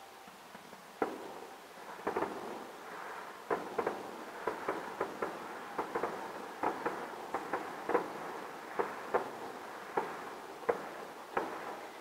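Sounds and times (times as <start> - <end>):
fireworks bangs and pops: 0.4 - 12.0.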